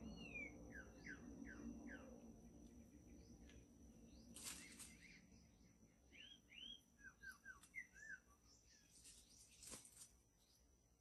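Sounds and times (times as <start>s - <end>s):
faint bird chirps: 0.0s - 10.7s.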